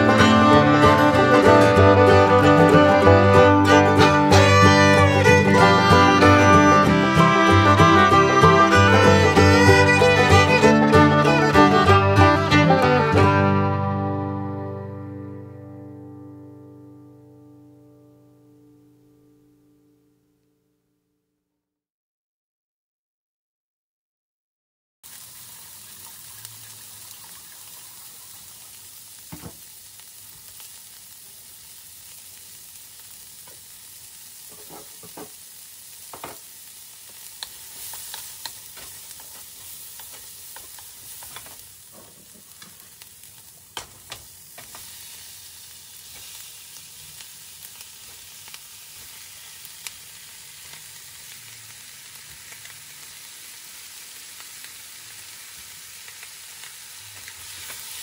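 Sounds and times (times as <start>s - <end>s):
onion sizzling in oil: 0.0s - 16.7s, 25.0s - 58.0s.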